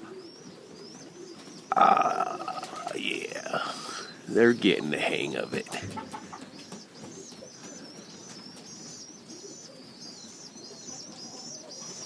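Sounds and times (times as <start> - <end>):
birds chirping: 0.0 - 12.0
faint pigeon cooing: 0.0 - 12.0.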